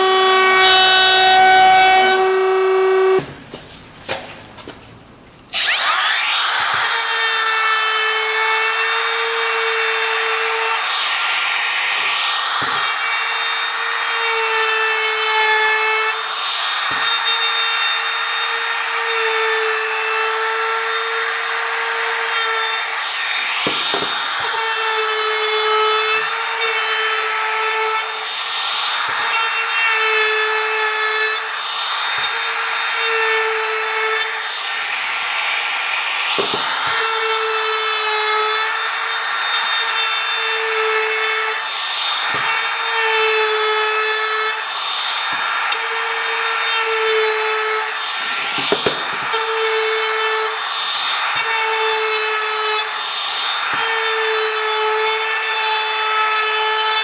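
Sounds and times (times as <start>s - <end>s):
power tool whining while cutting wood: 0.0s - 57.0s.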